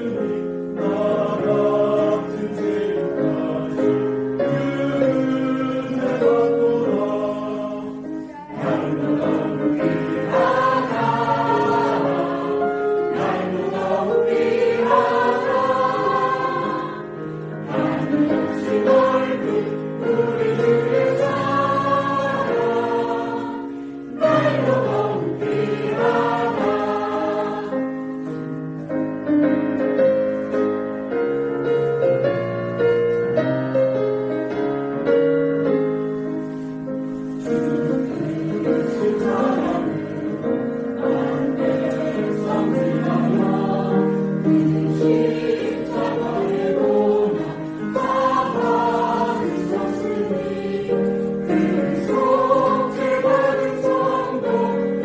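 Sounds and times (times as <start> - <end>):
church choir singing a hymn: 0.0 - 28.5, 36.5 - 55.0.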